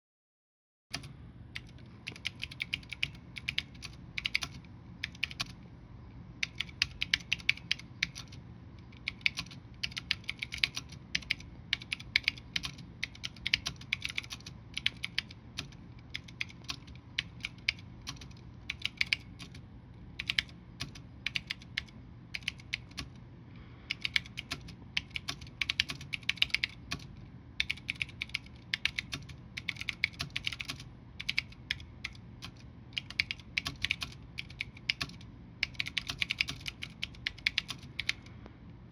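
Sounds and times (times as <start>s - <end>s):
mechanical keyboard typing: 0.9s - 5.6s, 6.4s - 19.6s, 20.2s - 23.2s, 23.9s - 38.3s.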